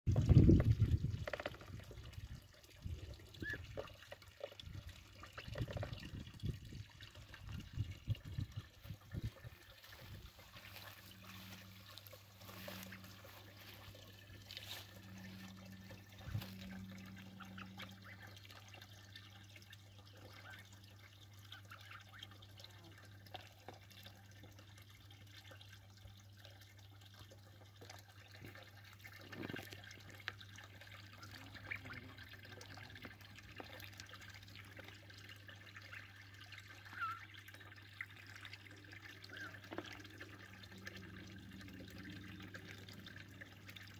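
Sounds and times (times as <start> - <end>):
water drips and splashes: 0.1 - 43.9
water trickling from a hose into a tub: 0.1 - 43.9.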